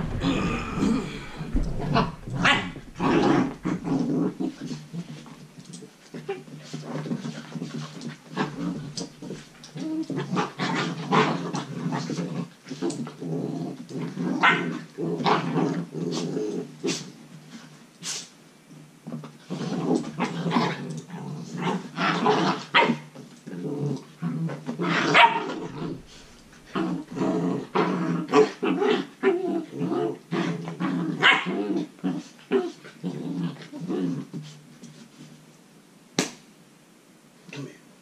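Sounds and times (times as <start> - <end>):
puppies play-growling: 0.0 - 17.1, 19.1 - 35.1.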